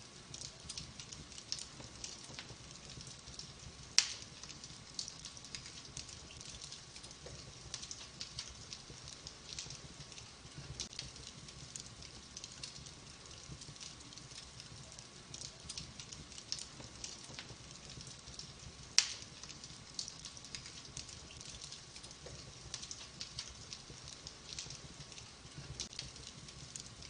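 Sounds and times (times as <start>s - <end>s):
fireplace logs crackling: 0.0s - 27.0s.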